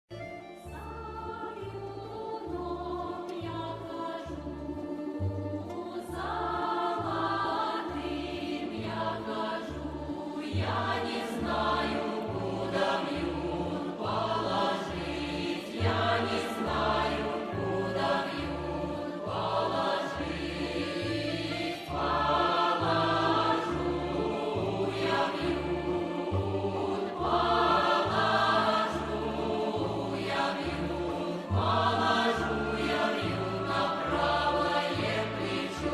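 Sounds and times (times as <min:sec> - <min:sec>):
choir-like singing: 0:00.8 - 0:35.9.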